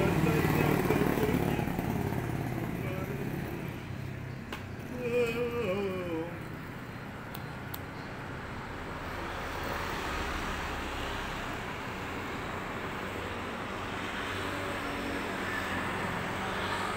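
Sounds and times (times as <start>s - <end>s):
road traffic rumble: 0.0s - 16.9s.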